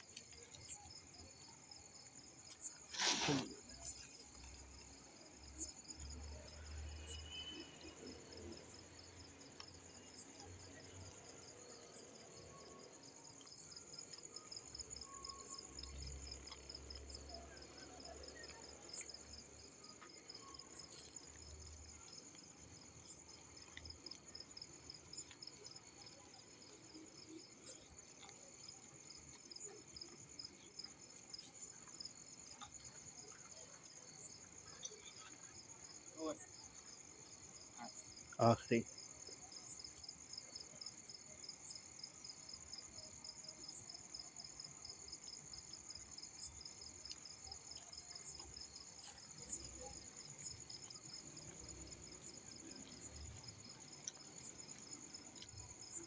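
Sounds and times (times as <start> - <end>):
crickets trilling: 0.0 - 56.0
pulsing cricket chirp: 0.0 - 56.0.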